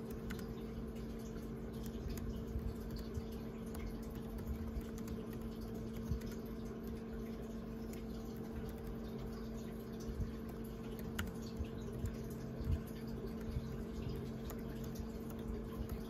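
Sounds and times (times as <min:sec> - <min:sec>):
laptop keyboard typing: 0:00.0 - 0:16.0
steady low hum: 0:00.0 - 0:16.0.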